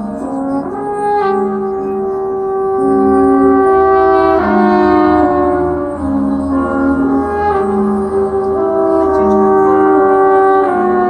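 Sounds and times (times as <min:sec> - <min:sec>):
brass band playing held chords: 0:00.0 - 0:11.0.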